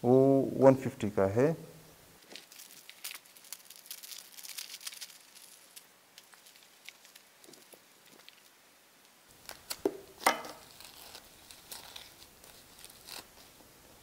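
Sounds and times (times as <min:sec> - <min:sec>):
plastic wrapping crinkling: 0:02.2 - 0:14.0.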